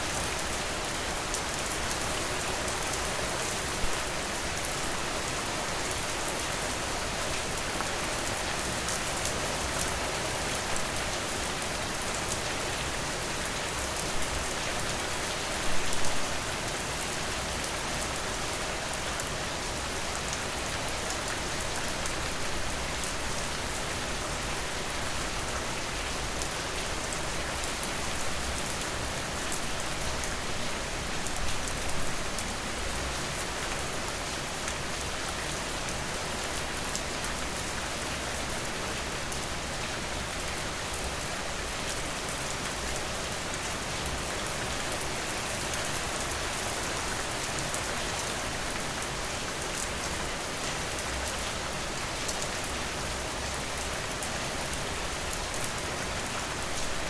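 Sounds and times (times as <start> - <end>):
steady rain on surfaces: 0.0 - 57.0.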